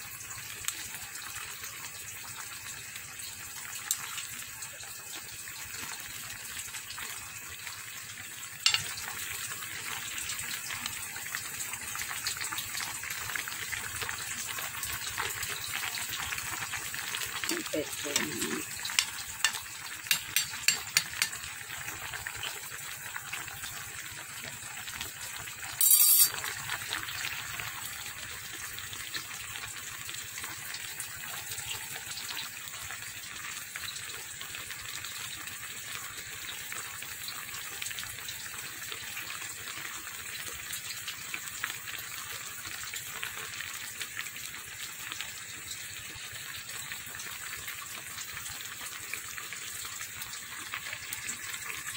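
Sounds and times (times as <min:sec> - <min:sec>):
food bubbling in a pan: 0:00.0 - 0:51.9.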